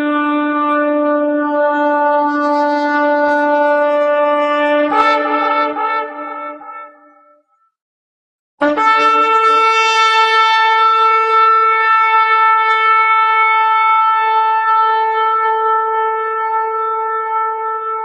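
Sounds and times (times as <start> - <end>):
shofar blast: 0.0 - 7.3, 8.6 - 18.0.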